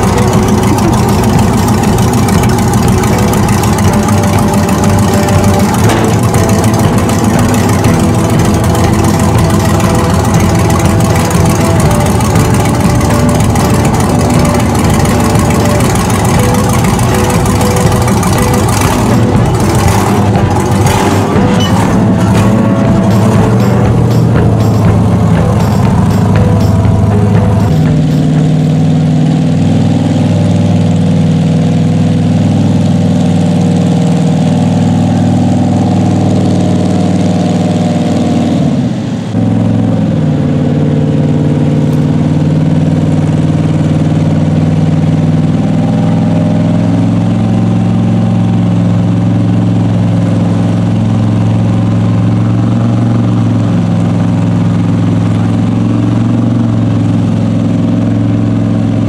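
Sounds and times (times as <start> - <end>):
truck engine running loudly: 0.0 - 59.0.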